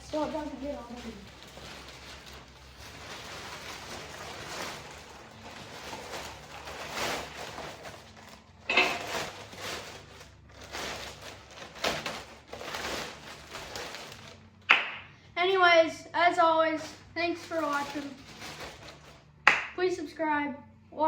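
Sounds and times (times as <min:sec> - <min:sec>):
plastic bag rustling and crinkling: 0:00.0 - 0:15.6, 0:16.6 - 0:19.5.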